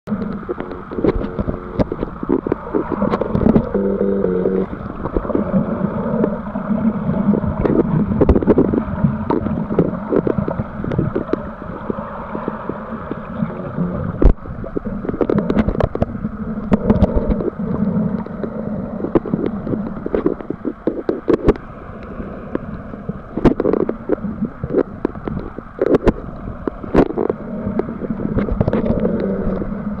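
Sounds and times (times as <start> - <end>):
muffled underwater rumble: 0.0 - 30.0.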